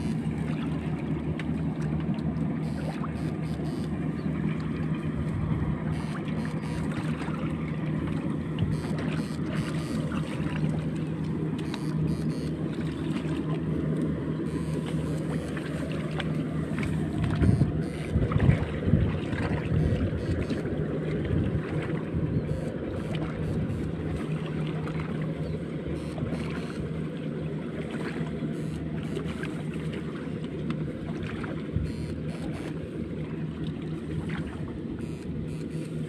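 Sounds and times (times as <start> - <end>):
electric rig humming: 0.0 - 36.0
water sloshing from wading: 0.0 - 36.0
water splashes: 0.0 - 36.0.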